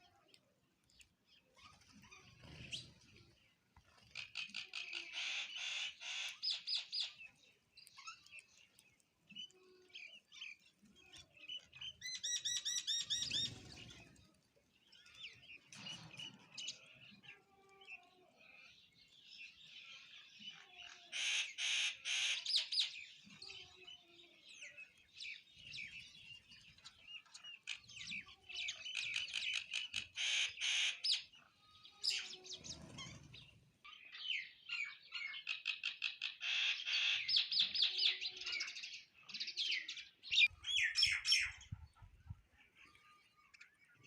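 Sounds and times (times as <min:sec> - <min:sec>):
sparrows chirping: 0:00.0 - 0:44.0.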